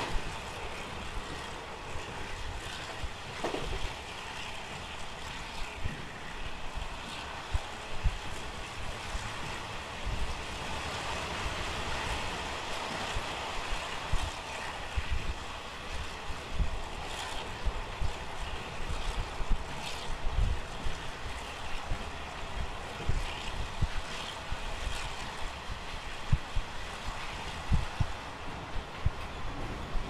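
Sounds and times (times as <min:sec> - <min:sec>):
train wheels and air rushing: 0:00.0 - 0:30.0
wind buffeting microphone: 0:00.0 - 0:30.0.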